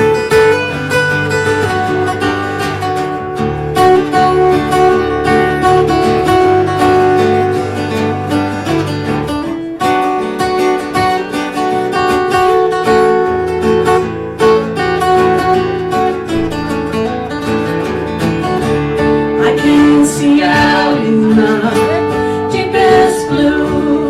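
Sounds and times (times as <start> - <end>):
strummed acoustic guitar: 0.0 - 24.0.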